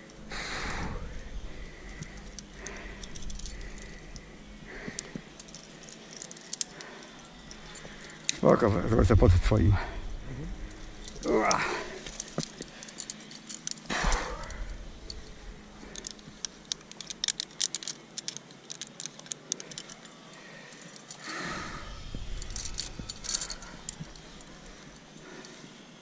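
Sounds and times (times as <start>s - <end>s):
climbing gear clinking: 0.0s - 26.0s.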